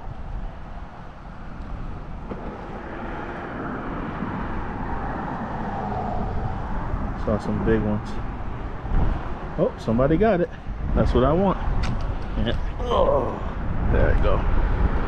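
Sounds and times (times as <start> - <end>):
vehicle passing: 2.2 - 15.0.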